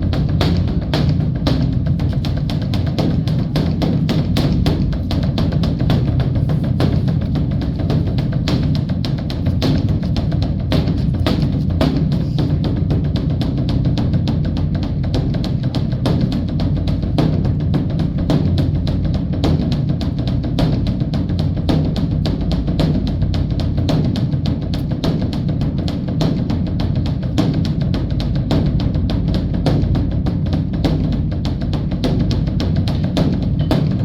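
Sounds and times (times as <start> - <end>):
rapid drumming on large drum: 0.0 - 34.0.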